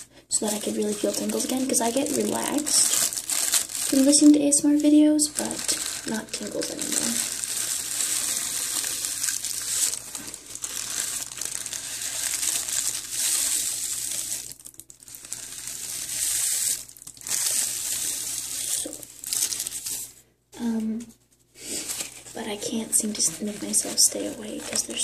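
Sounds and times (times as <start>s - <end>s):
tissue paper crinkling: 0.0s - 20.8s, 21.7s - 25.0s.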